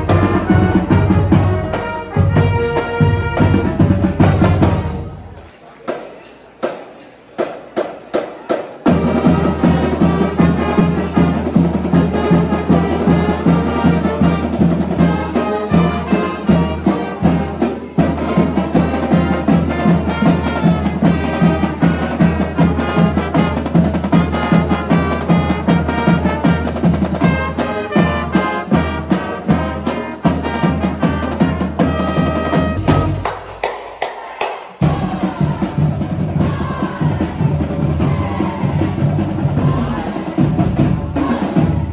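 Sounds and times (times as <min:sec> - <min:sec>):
drumline beat: 0:00.0 - 0:05.2, 0:05.9 - 0:41.9
marching band playing: 0:00.0 - 0:41.9.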